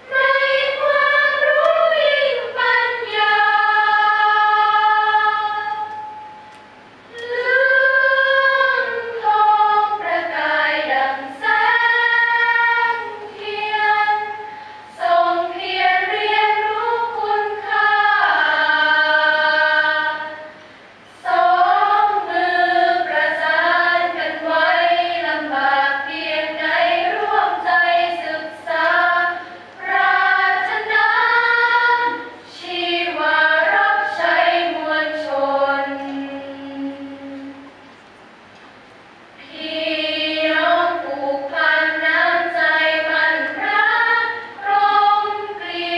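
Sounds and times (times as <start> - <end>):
women's choir singing a cappella: 0.0 - 6.4, 7.1 - 37.8, 39.4 - 45.9.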